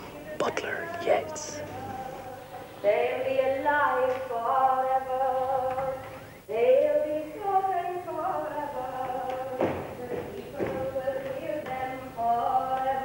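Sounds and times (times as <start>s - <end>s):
woman singing unaccompanied chant: 0.0s - 13.0s.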